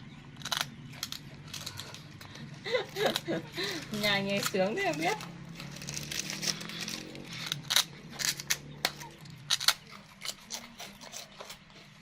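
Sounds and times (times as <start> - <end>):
monkey crunching rice crackers: 0.4 - 12.0.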